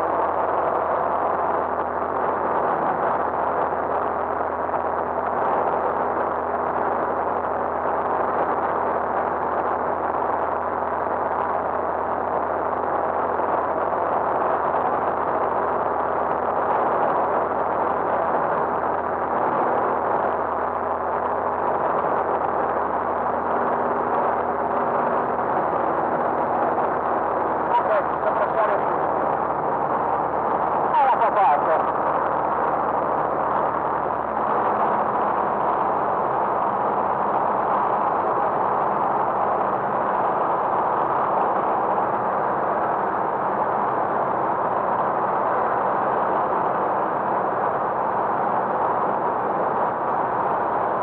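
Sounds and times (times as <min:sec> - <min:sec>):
light aircraft engine drone: 0:00.0 - 0:51.0.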